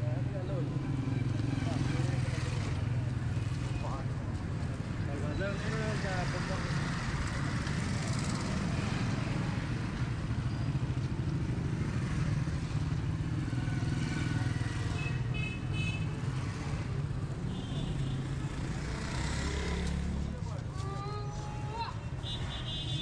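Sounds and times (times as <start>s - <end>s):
motorcycle engines running: 0.0s - 20.7s.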